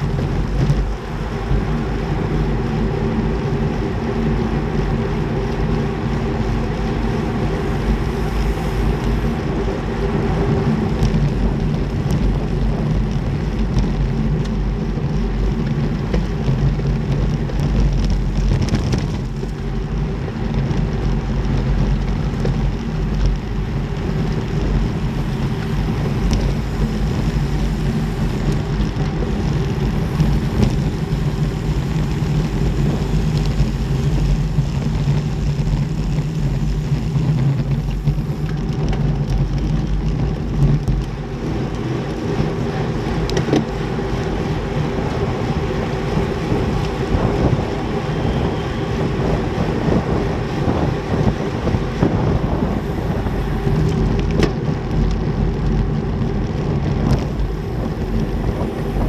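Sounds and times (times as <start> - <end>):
bike tyre noise: 0.0 - 59.0
wind noise on microphone: 0.0 - 59.0.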